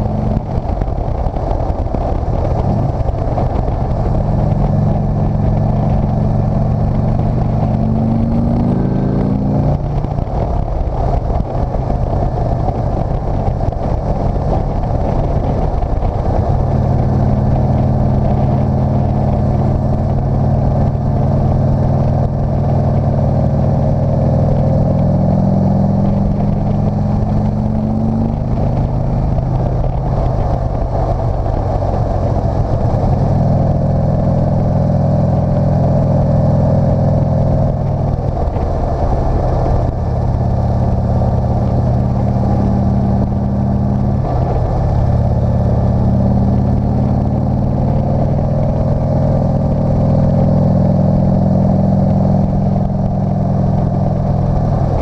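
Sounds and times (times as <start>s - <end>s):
motorcycle engine under load: 0.0s - 55.0s.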